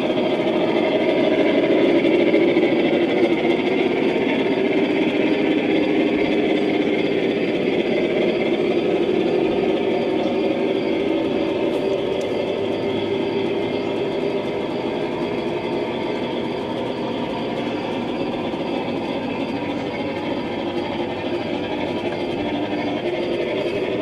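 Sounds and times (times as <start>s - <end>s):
model train motor hum and rumble: 0.0s - 24.0s.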